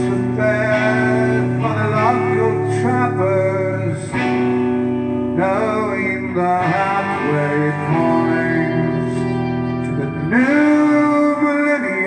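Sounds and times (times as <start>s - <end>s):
man singing long notes: 0.0s - 4.3s, 5.2s - 12.0s
electric guitar chords: 0.0s - 12.0s.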